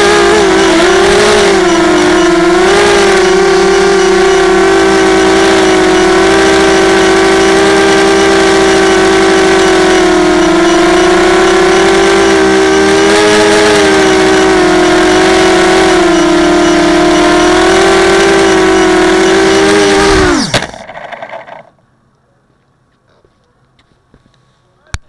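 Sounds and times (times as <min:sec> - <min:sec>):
quadcopter motors whining: 0:00.0 - 0:21.8.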